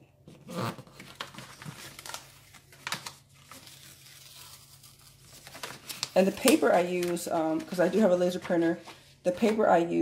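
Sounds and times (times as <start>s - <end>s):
paper rustling and crinkling: 0.4s - 9.7s.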